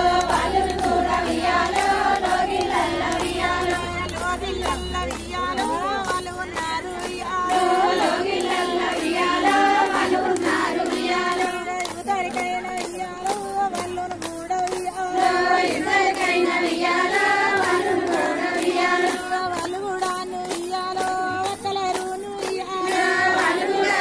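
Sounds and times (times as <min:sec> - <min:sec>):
rhythmic hand claps: 0:00.0 - 0:24.0
woman singing folk song: 0:00.0 - 0:24.0.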